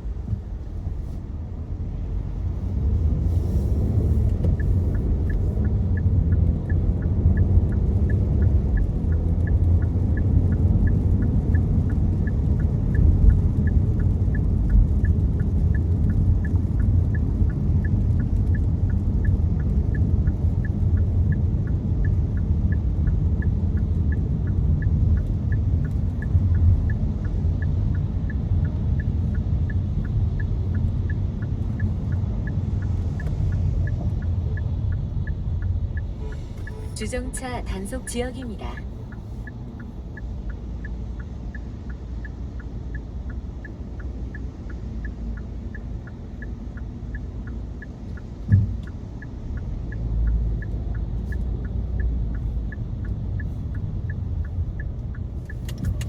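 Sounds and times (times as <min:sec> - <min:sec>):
car engine and road rumble: 0:00.0 - 0:56.0
rain on a car: 0:00.0 - 0:56.0
steady ticking: 0:03.9 - 0:56.0.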